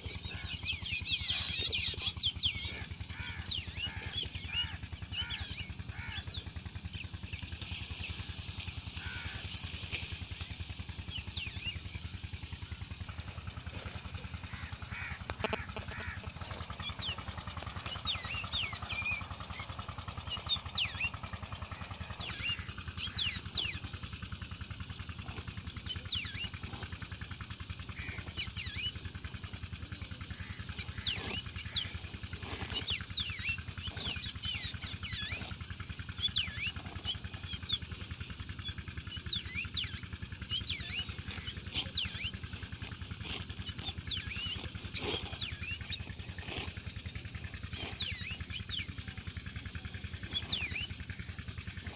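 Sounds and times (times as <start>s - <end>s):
low rumble: 0.0s - 51.9s.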